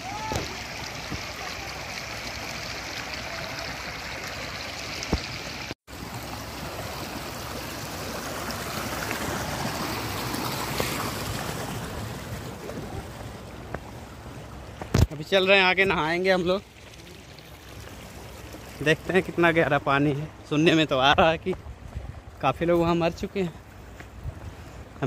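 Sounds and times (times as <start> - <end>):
river water rushing over rocks: 0.0 - 21.2.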